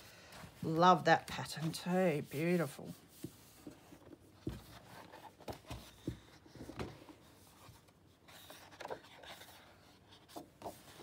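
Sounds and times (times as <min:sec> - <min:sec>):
paper rustling: 0:01.2 - 0:11.0.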